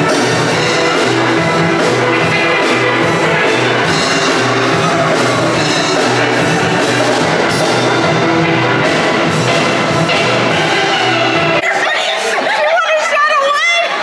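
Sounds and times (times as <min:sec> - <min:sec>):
drums keeping the beat: 0:00.0 - 0:11.7
steel band playing: 0:00.0 - 0:11.8.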